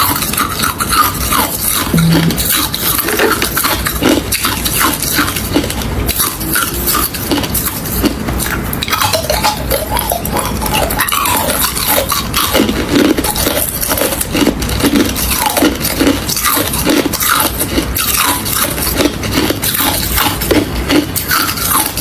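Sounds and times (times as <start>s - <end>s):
chewing crushed ice: 0.0s - 22.0s.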